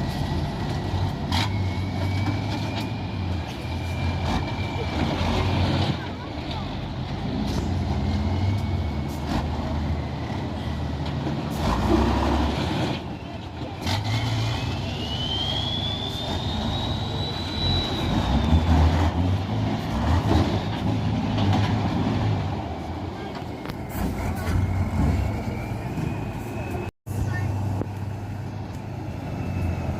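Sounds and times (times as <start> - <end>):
truck diesel engine revving: 0.0 - 26.3.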